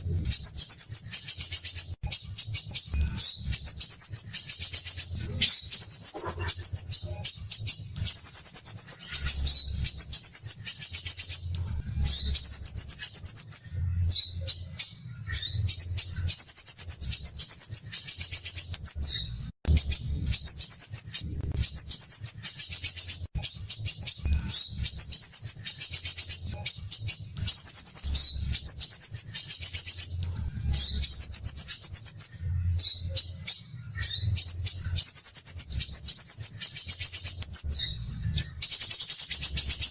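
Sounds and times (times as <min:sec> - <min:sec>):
bird rattling trill: 0:00.3 - 0:39.9.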